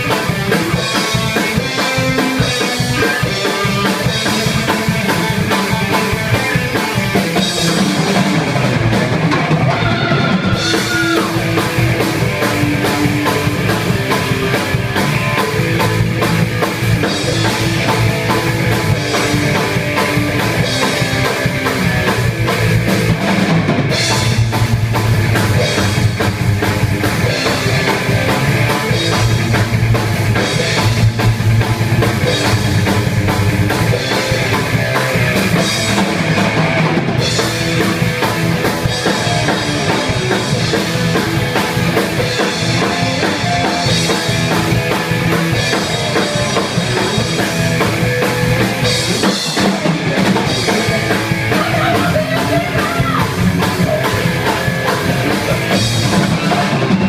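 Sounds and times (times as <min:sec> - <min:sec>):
driving drum kit: 0:00.0 - 0:57.0
rock music: 0:00.0 - 0:57.0.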